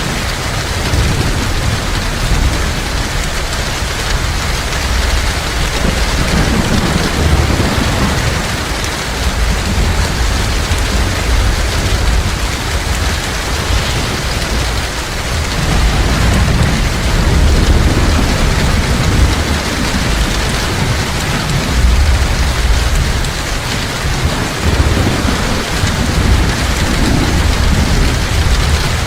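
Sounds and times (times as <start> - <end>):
heavy rain pouring: 0.0 - 29.0
deep low rumble: 0.6 - 29.0.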